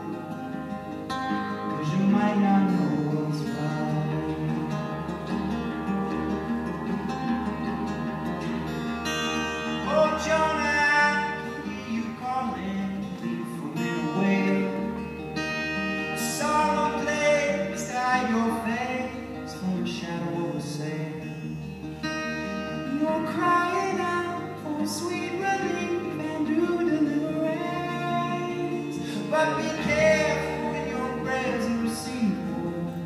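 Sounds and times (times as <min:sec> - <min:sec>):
person singing: 0:00.0 - 0:05.8, 0:09.0 - 0:15.3, 0:16.0 - 0:21.8, 0:22.8 - 0:33.0
acoustic guitar: 0:00.0 - 0:33.0.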